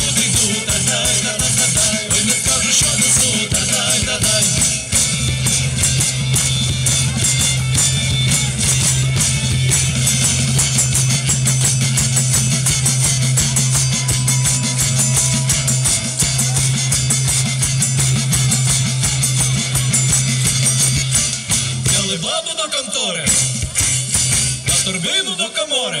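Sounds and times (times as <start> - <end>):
plucked guitar: 0.0 - 22.2
steady drum beat: 0.0 - 25.3.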